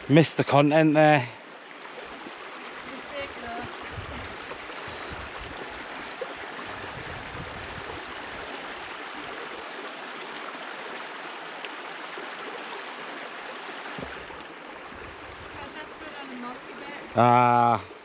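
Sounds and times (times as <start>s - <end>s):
stream water over rocks: 0.0s - 18.0s.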